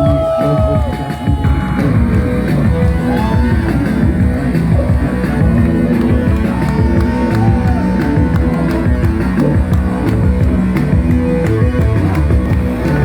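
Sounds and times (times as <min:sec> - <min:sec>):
bass: 0:00.0 - 0:13.0
drums: 0:00.0 - 0:13.0
guitar: 0:00.0 - 0:13.0.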